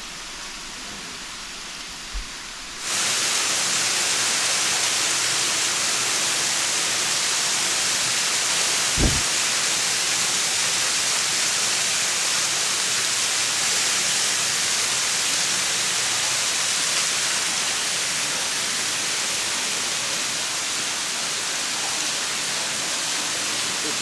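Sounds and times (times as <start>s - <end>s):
waterfall rushing hiss: 2.8s - 24.0s.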